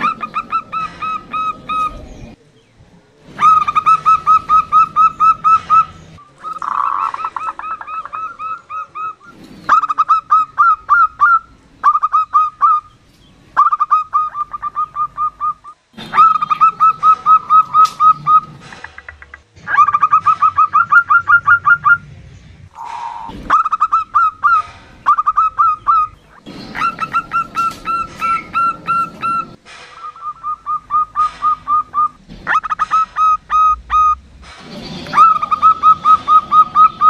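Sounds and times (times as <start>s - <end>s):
dove calling in staccato notes: 0.0s - 2.1s, 3.3s - 22.1s, 22.7s - 34.3s, 34.9s - 37.0s.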